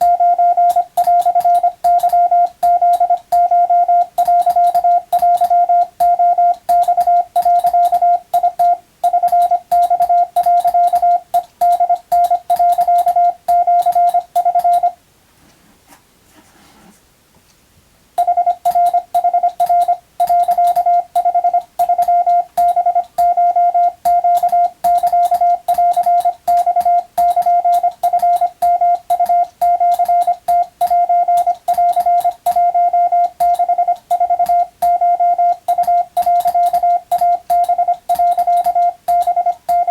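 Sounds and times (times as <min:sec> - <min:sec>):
morse code tone: 0:00.0 - 0:15.0, 0:18.2 - 0:39.9.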